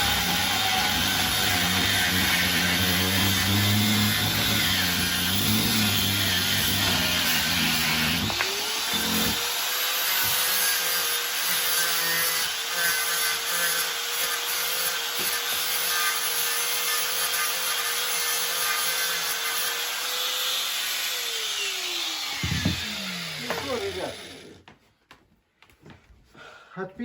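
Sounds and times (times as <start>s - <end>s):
angle grinder running: 0.0s - 24.6s
grinder disc cutting metal: 0.0s - 24.6s.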